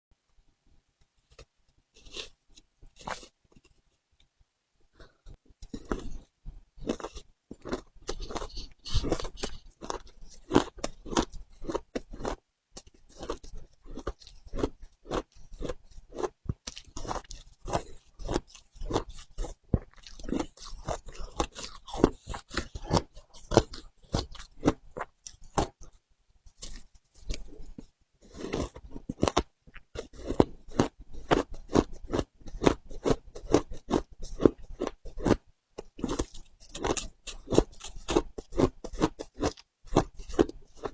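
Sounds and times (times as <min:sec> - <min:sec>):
ice being crunched and chewed: 0:05.6 - 0:26.0, 0:26.6 - 0:40.9.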